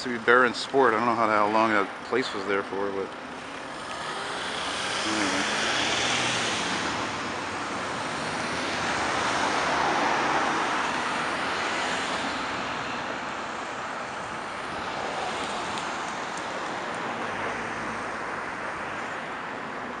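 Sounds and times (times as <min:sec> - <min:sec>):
cars passing: 0:00.0 - 0:20.0.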